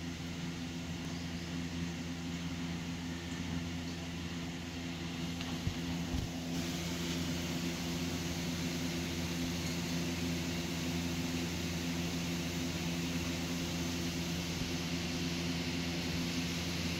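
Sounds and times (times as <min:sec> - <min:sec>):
machine humming: 0:00.0 - 0:16.9.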